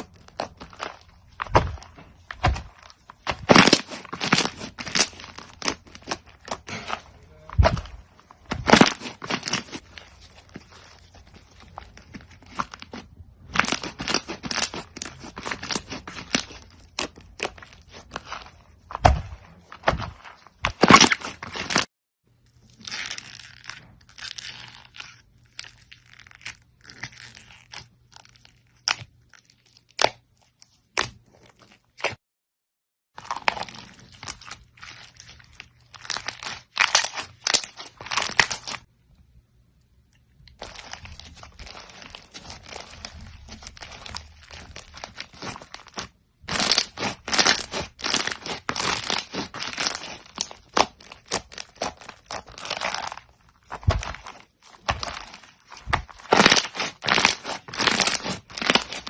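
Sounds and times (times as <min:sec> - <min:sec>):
crunchy slime crackling: 0:00.0 - 0:21.9, 0:22.5 - 0:32.2, 0:33.2 - 0:38.9, 0:40.1 - 0:59.0.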